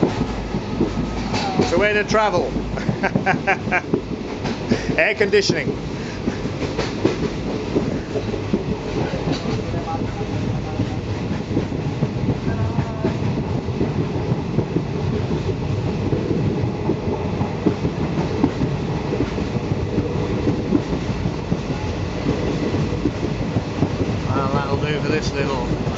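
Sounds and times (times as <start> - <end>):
train carriage rumble and rattle: 0.0 - 25.9
wheels clattering over track: 0.0 - 25.9.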